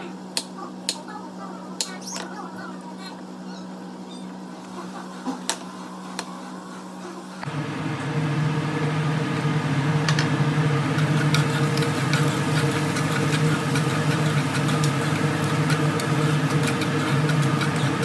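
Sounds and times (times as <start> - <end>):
small electric motor humming: 1.5 - 18.0.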